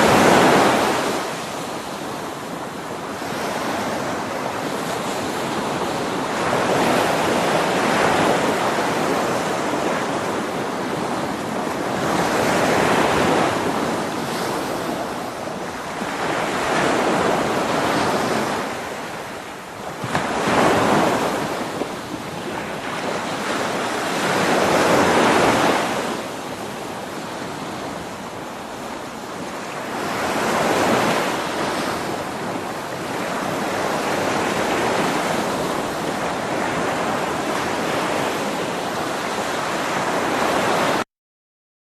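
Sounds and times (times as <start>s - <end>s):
sea waves breaking on shore: 0.0s - 41.0s.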